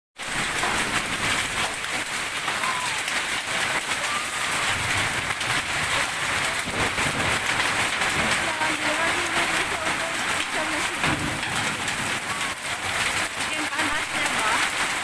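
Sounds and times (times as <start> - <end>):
hail and rain pelting: 0.2 - 15.0.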